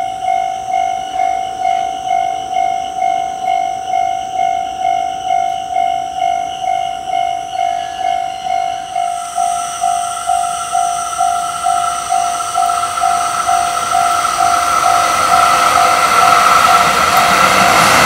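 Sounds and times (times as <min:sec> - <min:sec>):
approaching freight train rushing: 0:00.0 - 0:18.0
level-crossing warning bell ringing: 0:00.0 - 0:18.0.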